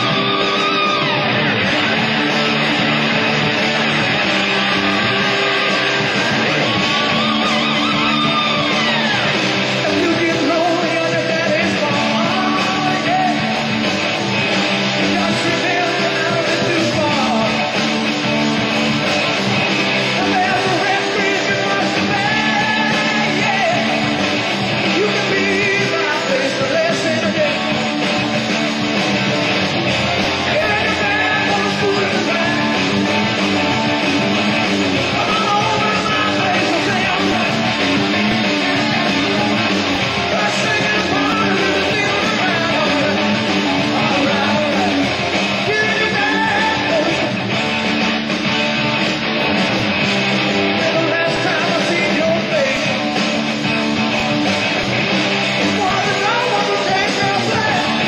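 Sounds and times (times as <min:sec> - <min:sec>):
person singing: 0:00.0 - 0:14.0, 0:14.8 - 0:17.8, 0:20.0 - 0:28.0, 0:30.2 - 0:47.8, 0:50.6 - 0:53.2, 0:55.6 - 0:58.0
electric guitar: 0:00.0 - 0:58.0
rock music: 0:00.0 - 0:58.0.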